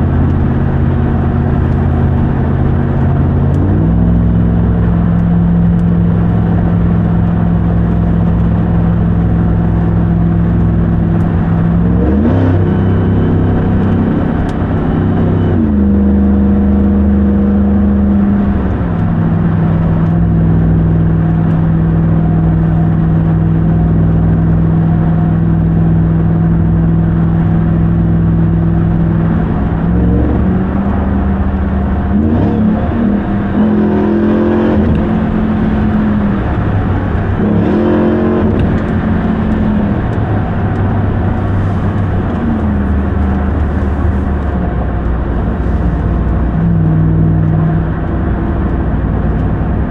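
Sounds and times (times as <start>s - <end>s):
engine cruising: 0.0s - 49.9s.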